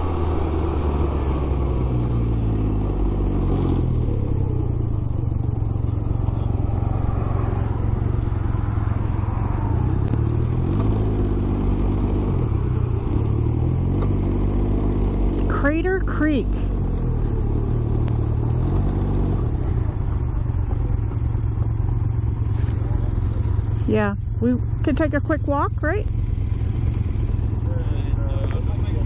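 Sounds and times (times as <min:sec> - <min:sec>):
three-wheeler engine running: 0:00.0 - 0:29.0
wind and road noise: 0:00.0 - 0:29.0.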